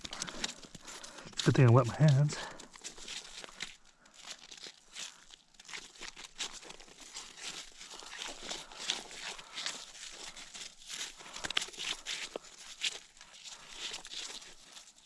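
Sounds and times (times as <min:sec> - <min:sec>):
rustling and crinkling handling: 0:00.0 - 0:15.0.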